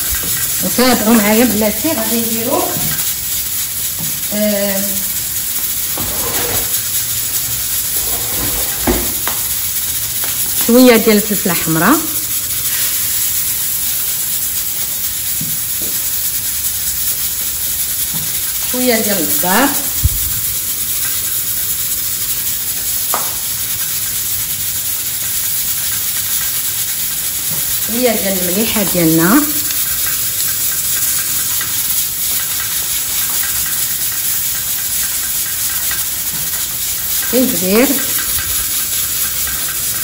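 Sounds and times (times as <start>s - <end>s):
meat sizzling in frying pan: 0.0s - 6.0s, 6.7s - 8.0s, 9.2s - 40.0s.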